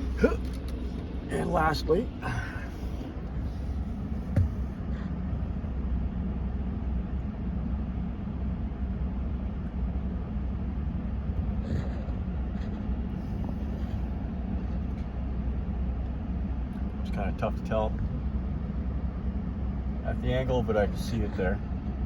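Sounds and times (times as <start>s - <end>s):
fan blower through vents: 0.0s - 22.0s
truck engine idling: 0.0s - 22.0s.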